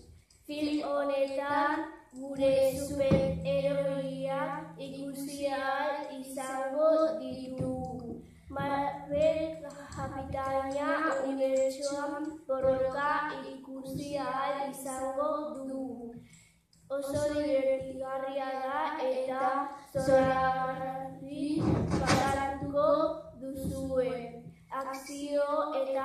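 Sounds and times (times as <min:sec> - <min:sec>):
girl singing into a microphone: 0:00.4 - 0:26.0.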